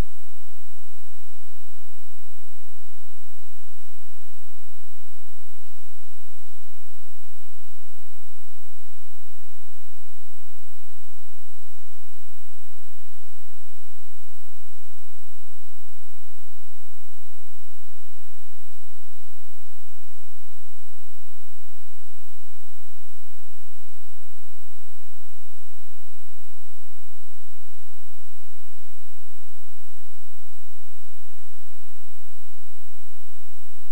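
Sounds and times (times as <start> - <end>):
electrical hum and hiss: 0.0 - 33.9.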